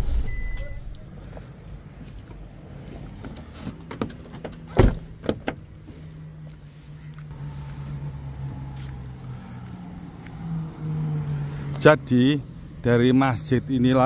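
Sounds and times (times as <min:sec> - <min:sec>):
vehicle engine idling: 0:00.0 - 0:13.2.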